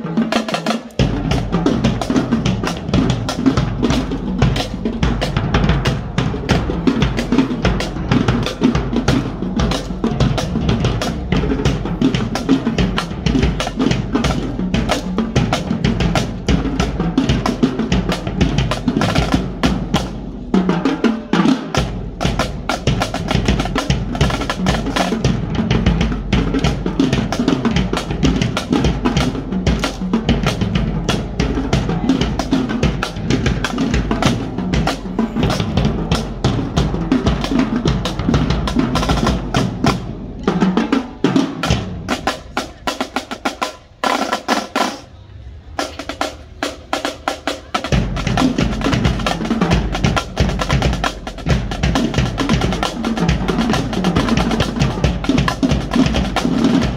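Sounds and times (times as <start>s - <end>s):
marching snare and tenor drums: 0.0s - 56.9s.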